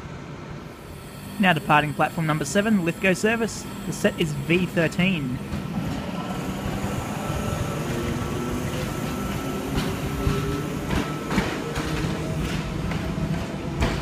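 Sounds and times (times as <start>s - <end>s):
electric train running with hum: 0.0s - 14.0s.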